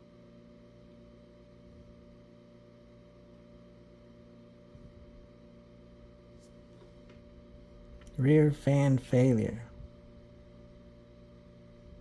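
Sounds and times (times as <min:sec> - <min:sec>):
computer electrical hum: 0:00.0 - 0:12.0.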